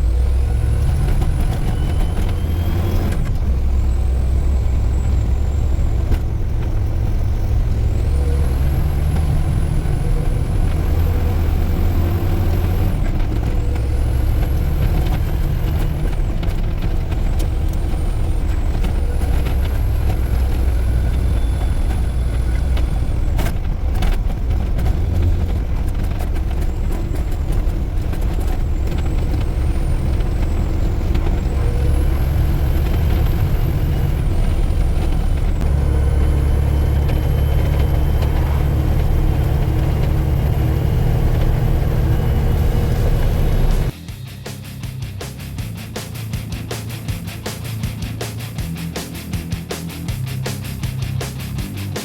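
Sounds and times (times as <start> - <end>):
diesel truck engine droning: 0.0 - 52.0.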